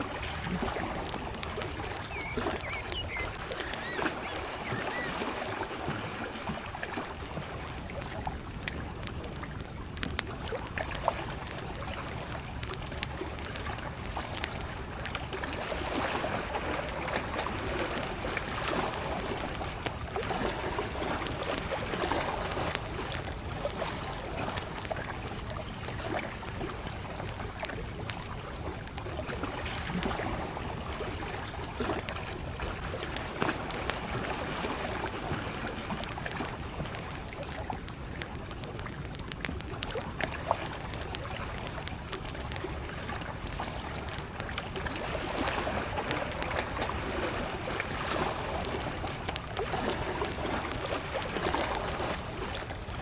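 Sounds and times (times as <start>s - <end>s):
campfire crackling and popping: 0.0s - 53.0s
small waves lapping at shore: 0.0s - 53.0s.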